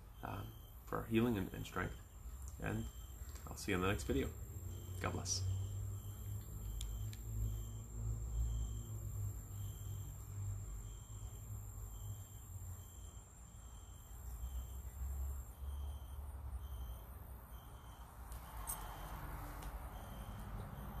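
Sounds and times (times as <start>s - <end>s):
insects chirping: 0.0s - 21.0s
thin high whine: 0.0s - 21.0s.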